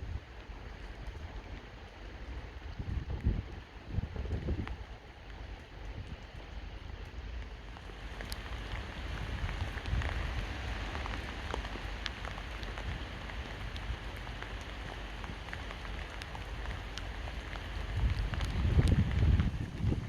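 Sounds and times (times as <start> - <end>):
rain drops ticking: 0.0 - 20.0.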